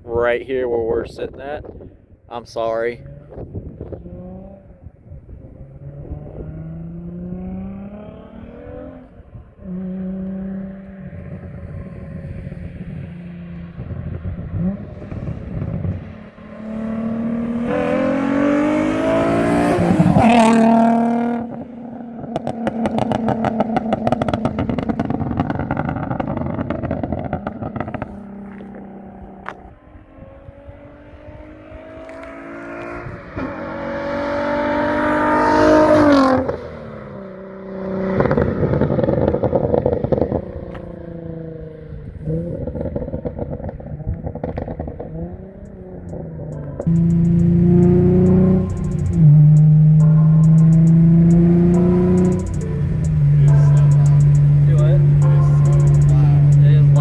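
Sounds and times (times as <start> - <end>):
car engine accelerating: 2.9 - 57.0.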